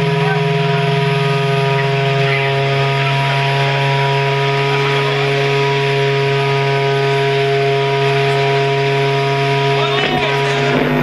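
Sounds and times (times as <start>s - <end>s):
electronic drone: 0.0s - 11.0s.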